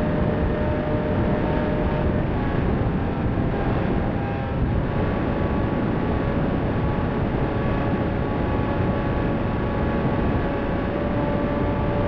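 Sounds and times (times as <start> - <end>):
faint electric motor whine: 0.0 - 12.0
wind rushing over camera: 0.0 - 12.0.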